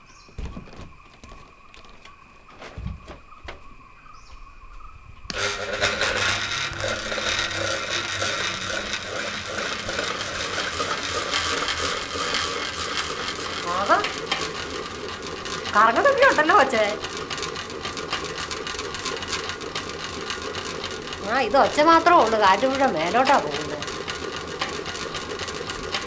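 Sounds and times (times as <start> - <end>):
ceiling fan clattering rattle: 0.0 - 26.0
fan motor hum: 0.0 - 26.0.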